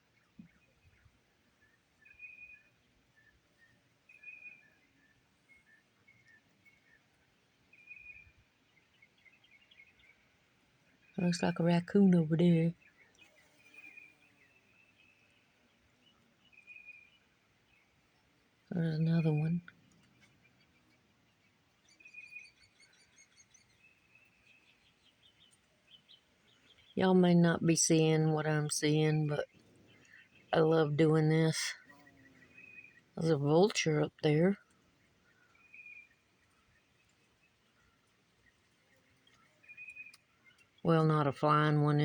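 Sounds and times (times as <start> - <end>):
bird chirps: 0.1 - 7.1, 7.7 - 10.2, 12.7 - 18.0, 20.4 - 34.2, 35.2 - 41.2.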